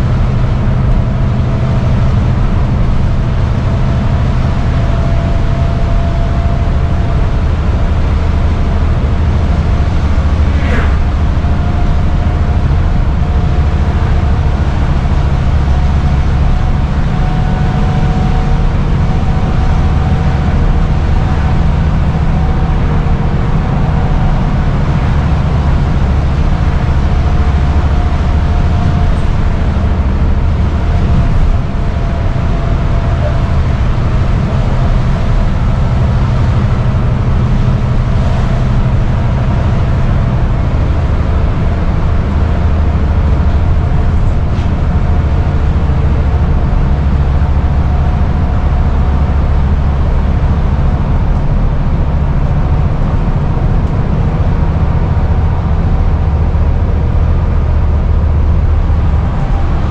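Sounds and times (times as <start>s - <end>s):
bus diesel engine droning: 0.0s - 59.9s
road noise: 0.0s - 59.9s.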